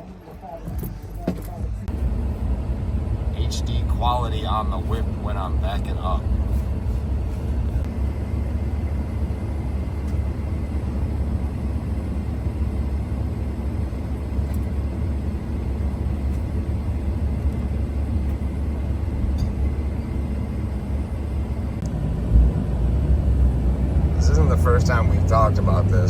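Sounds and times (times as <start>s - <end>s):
pickup truck engine rumble: 0.0s - 26.0s
road noise: 0.0s - 26.0s.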